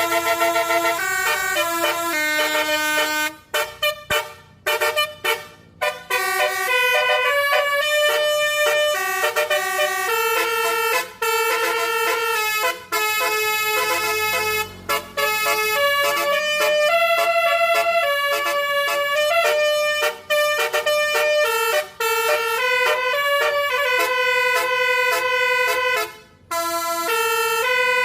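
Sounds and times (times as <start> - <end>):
melodic bus air horn: 0.0 - 28.0.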